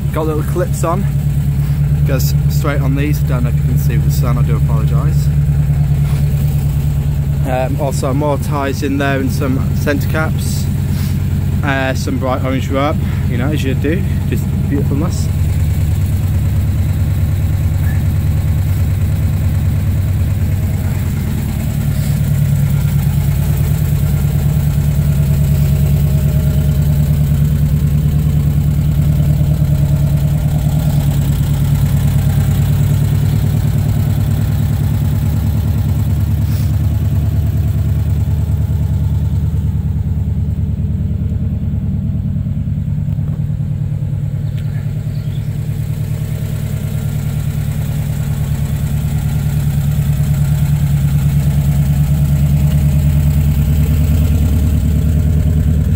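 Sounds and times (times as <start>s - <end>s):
air-cooled engine idling: 0.0s - 55.9s.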